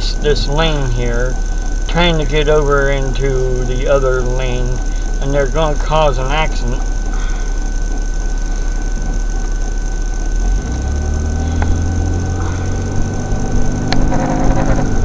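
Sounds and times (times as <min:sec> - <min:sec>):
engine and road rumble: 0:00.0 - 0:15.0
thin high whine: 0:00.0 - 0:15.0.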